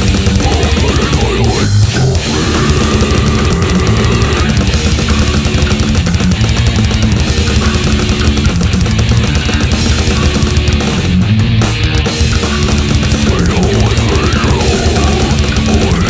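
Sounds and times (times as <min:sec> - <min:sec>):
death metal music: 0:00.0 - 0:16.0.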